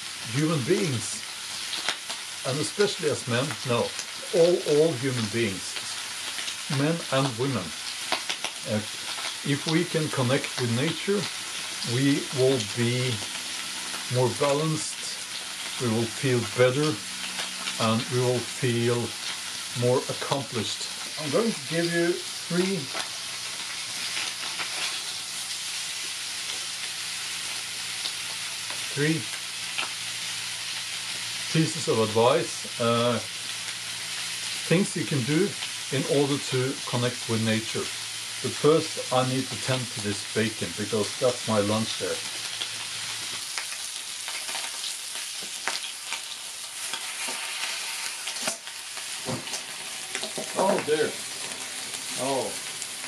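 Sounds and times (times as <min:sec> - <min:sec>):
bacon sizzling: 0:00.0 - 0:53.0.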